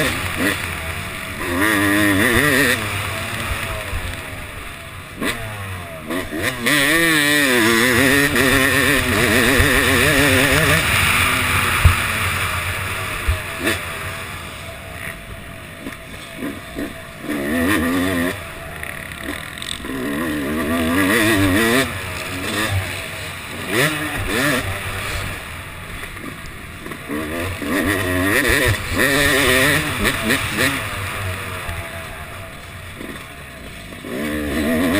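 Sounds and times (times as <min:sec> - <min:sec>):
motocross bike engine revving: 0:00.0 - 0:34.9.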